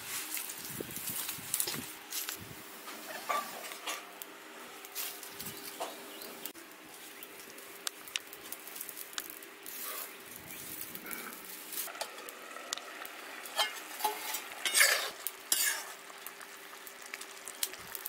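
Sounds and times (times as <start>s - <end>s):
fire crackling and rustling: 0.0s - 18.0s.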